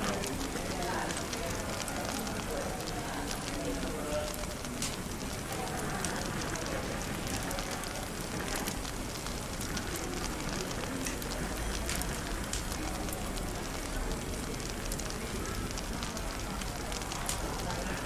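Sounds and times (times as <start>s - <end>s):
cafe chatter: 0.0s - 18.0s
fireplace crackling: 0.0s - 18.0s.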